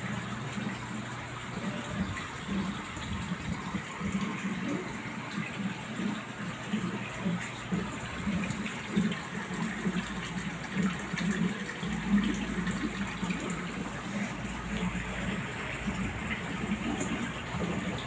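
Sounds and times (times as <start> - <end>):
low bubbling gurgles: 0.0 - 18.0.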